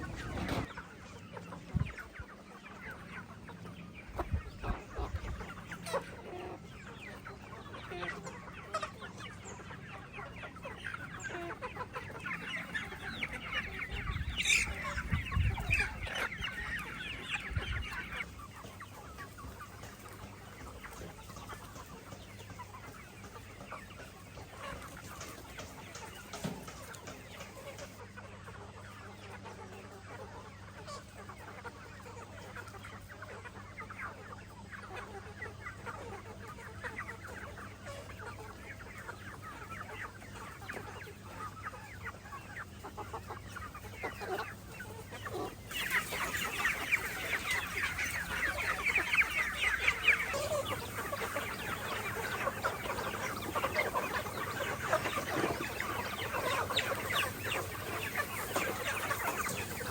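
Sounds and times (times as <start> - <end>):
chickens clucking and chirping: 0.0 - 59.9.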